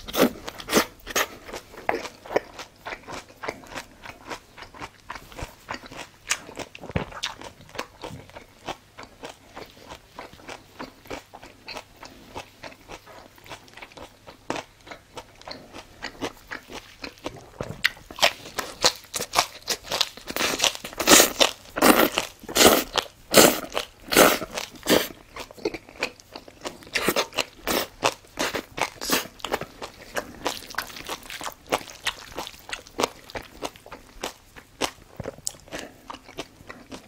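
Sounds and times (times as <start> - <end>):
crisp wet chewing crunches: 0.0 - 37.0.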